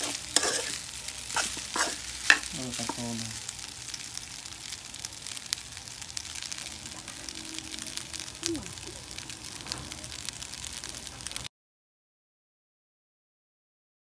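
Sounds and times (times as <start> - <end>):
rice sizzling in a wok: 0.0 - 11.5.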